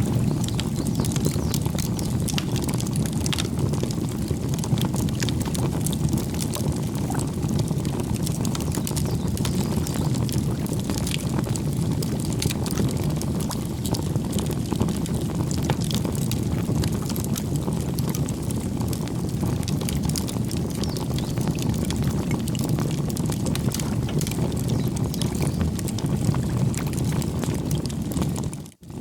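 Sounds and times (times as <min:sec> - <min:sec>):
campfire flames rumbling: 0:00.0 - 0:29.0
fire crackling and popping: 0:00.0 - 0:29.0.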